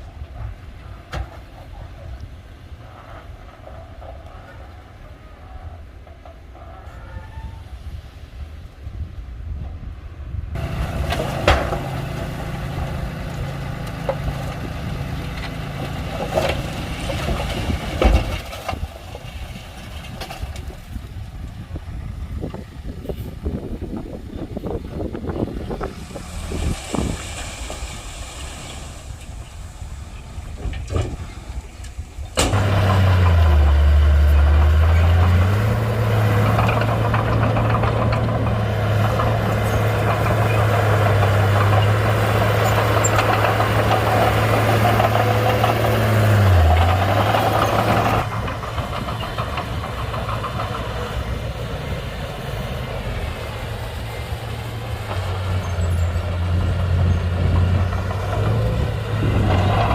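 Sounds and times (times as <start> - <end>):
bulldozer diesel engine working: 0.0 - 8.2, 9.4 - 59.9.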